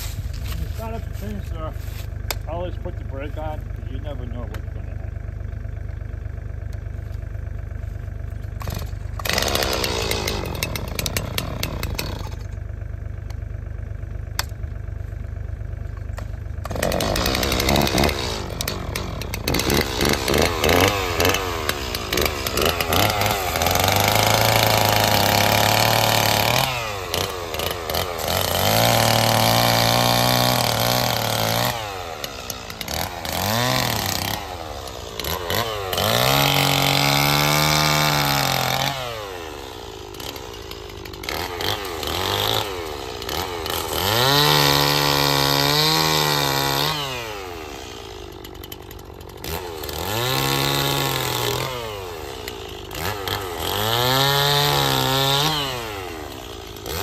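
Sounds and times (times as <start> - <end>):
chainsaw revving and cutting: 0.0 - 7.7, 8.3 - 12.6, 16.1 - 57.0.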